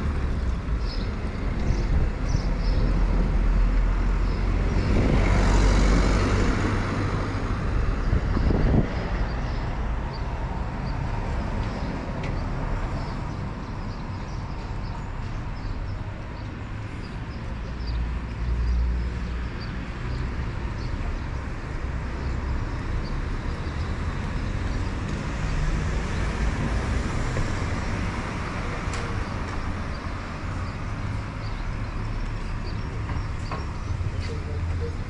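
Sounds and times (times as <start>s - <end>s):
low street rumble: 0.0s - 35.0s.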